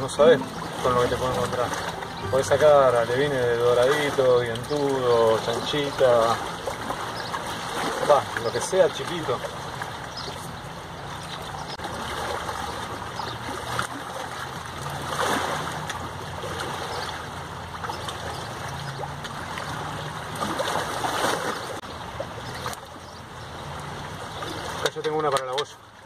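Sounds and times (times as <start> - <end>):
river water rushing against rocks: 0.0 - 25.2.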